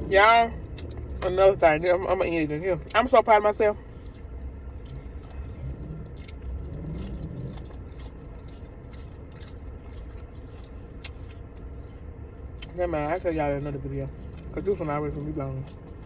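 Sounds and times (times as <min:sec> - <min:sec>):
closed-mouth hum: 0:00.0 - 0:16.0
low rumble: 0:00.0 - 0:16.0
chewing food: 0:00.5 - 0:16.0.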